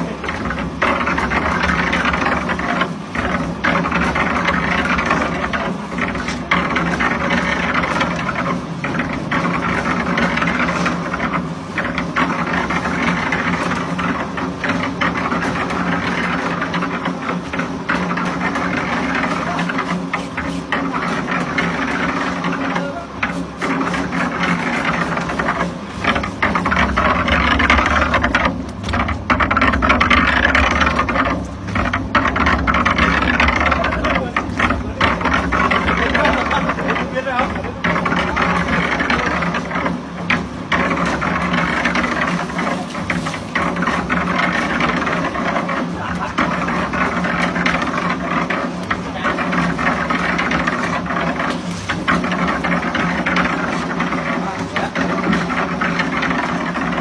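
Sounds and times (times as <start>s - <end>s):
machine motor humming: 0.0s - 57.0s
rattling churning noise: 0.0s - 57.0s.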